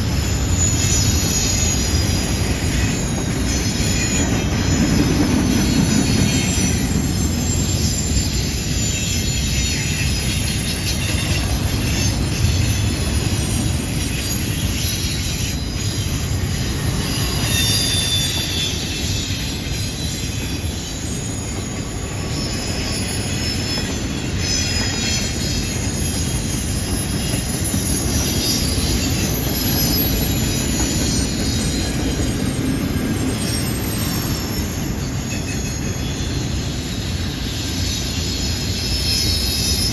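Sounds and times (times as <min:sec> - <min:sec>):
high wheel squeal: 0:00.0 - 0:39.9
train wheels rumbling on rails: 0:00.0 - 0:39.9.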